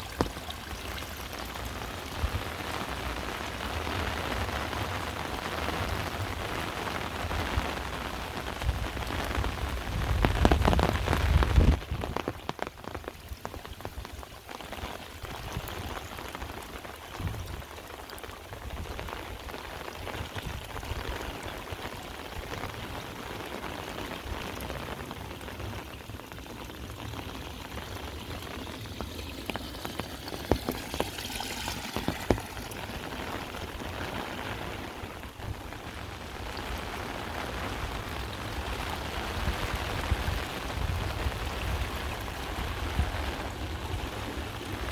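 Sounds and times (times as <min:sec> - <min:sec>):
heavy rain pouring: 0:00.0 - 0:44.9
individual raindrops: 0:00.0 - 0:44.9.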